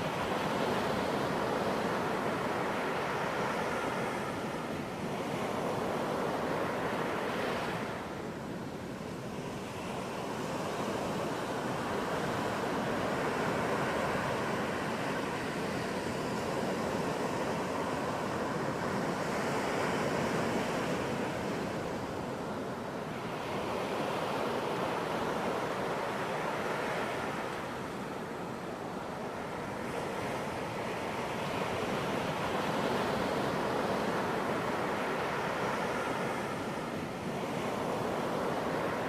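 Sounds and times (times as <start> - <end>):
ocean waves breaking on beach: 0.0 - 39.0.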